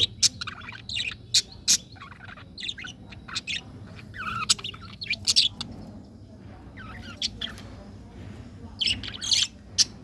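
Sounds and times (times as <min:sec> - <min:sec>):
budgerigars chirping: 0:00.0 - 0:05.9, 0:06.7 - 0:07.7, 0:08.8 - 0:10.0.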